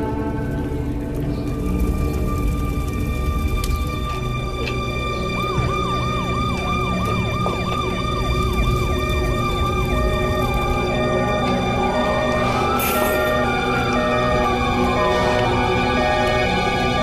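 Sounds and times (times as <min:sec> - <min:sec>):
low rumble: 0:00.0 - 0:17.0
emergency vehicle siren yelping: 0:01.7 - 0:17.0.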